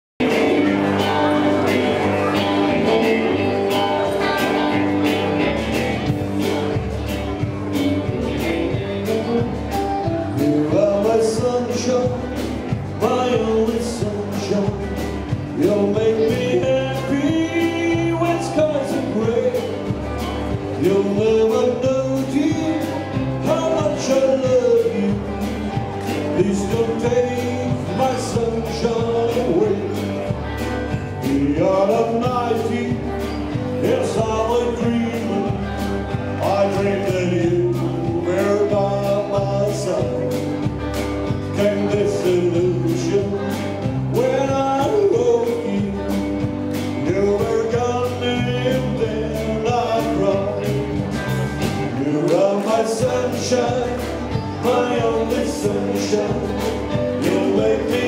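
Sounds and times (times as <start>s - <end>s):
electric guitars: 0.2s - 58.0s
live country band: 0.2s - 58.0s.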